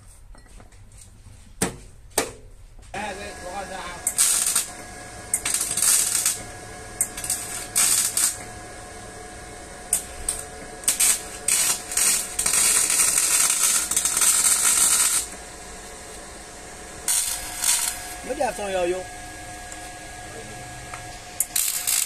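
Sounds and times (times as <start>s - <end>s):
welding arc crackling: 2.9s - 22.0s.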